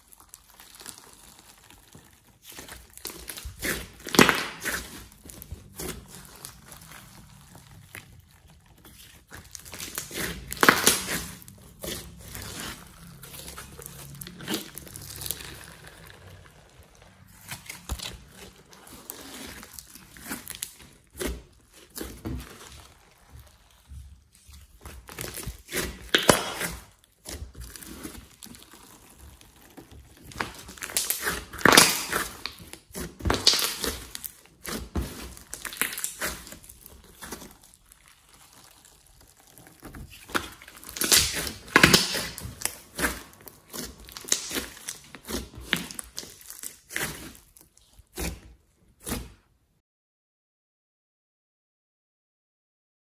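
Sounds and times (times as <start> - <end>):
slime squishing and popping: 0.0 - 49.4.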